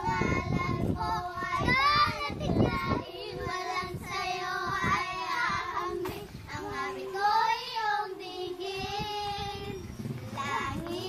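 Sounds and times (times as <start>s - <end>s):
girls singing together: 0.0s - 11.0s.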